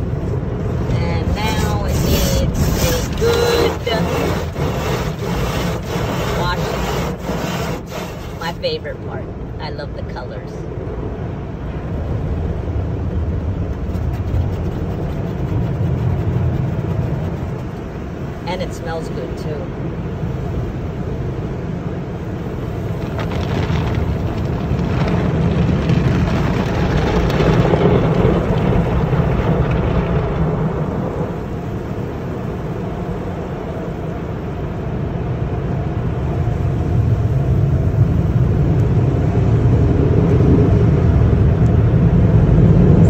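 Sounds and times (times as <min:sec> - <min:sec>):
car wash water spray rushing: 0:00.0 - 0:09.4, 0:11.0 - 0:43.0.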